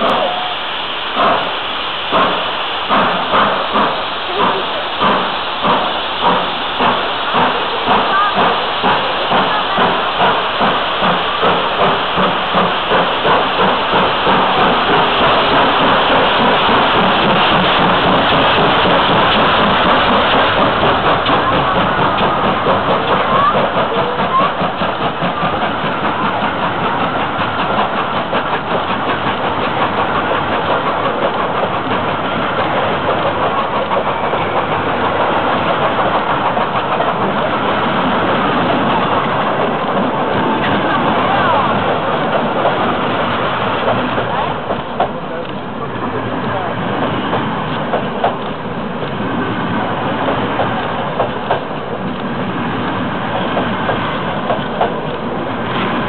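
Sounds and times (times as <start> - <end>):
steam locomotive exhaust chuffs: 0.0 - 56.0
train coaches rolling past: 0.0 - 56.0.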